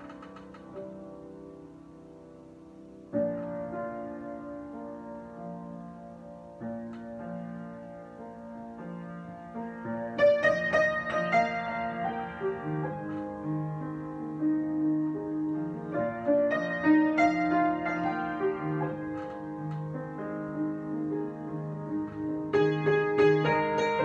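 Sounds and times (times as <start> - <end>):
solo piano: 0.0 - 24.0.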